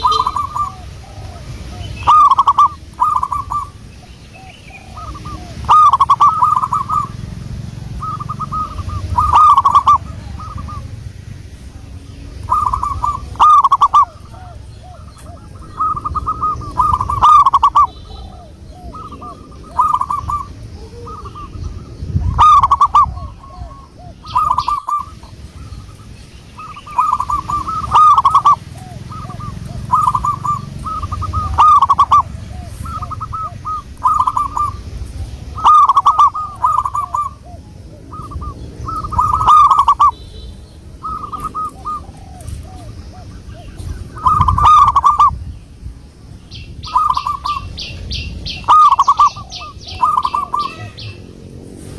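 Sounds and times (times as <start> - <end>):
doves cooing: 0.0 - 45.8, 46.5 - 51.9.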